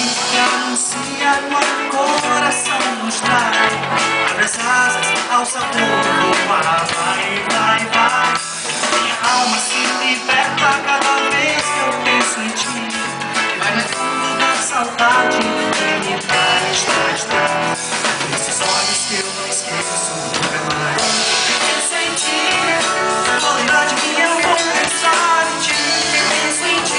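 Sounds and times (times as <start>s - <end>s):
person singing: 0.0s - 26.9s
pop-rock band playing: 0.0s - 26.9s.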